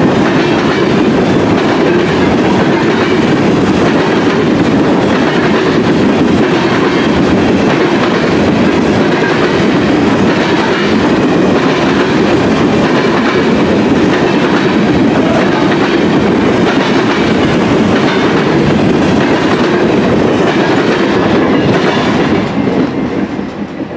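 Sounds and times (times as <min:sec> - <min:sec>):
freight train rumbling and rattling: 0:00.0 - 0:23.9.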